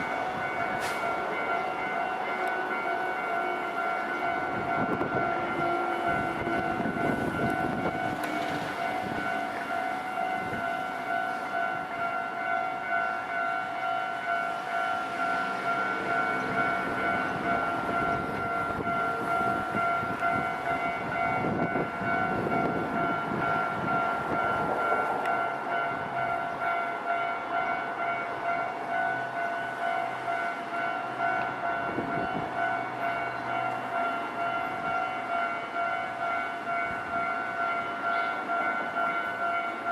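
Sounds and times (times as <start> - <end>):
level-crossing warning bell: 0.0 - 39.9
train rumbling: 0.0 - 39.9.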